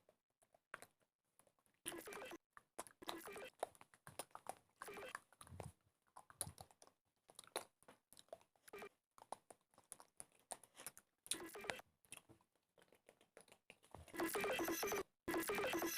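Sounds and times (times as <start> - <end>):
mouth clicks and crackles: 0.5 - 14.5.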